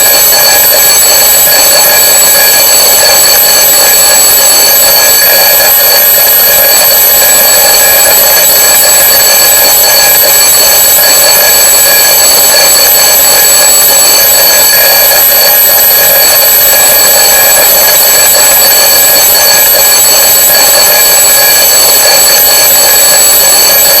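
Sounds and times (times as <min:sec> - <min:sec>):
alarm clock bells ringing: 0:00.0 - 0:24.0.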